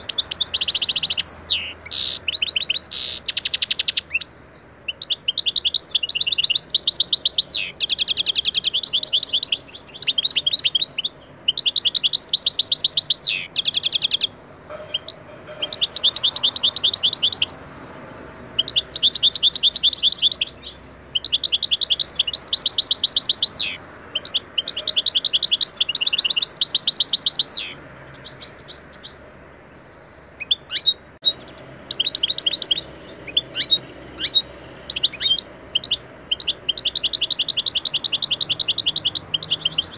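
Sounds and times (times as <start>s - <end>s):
bird twittering: 0.0s - 29.2s, 30.2s - 39.9s
finch singing trilled notes: 0.0s - 29.2s, 29.9s - 39.9s.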